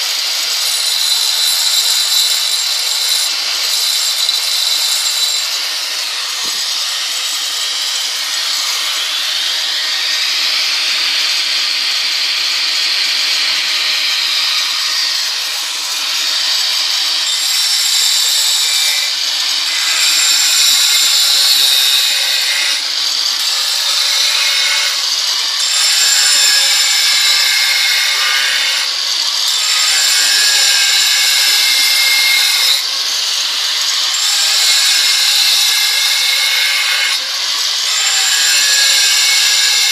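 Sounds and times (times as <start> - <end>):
angle grinder grinding stone: 0.0 - 39.9.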